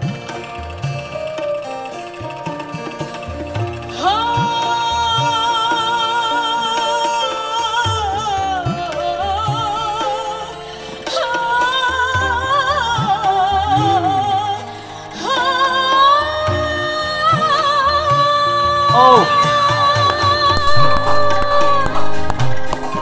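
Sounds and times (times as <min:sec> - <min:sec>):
band accompaniment: 0:00.0 - 0:23.0
woman singing a slow ballad: 0:03.9 - 0:23.0.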